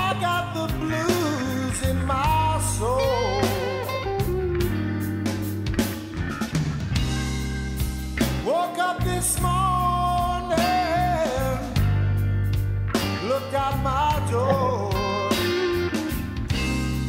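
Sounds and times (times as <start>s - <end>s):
slow rock song: 0.0s - 17.0s.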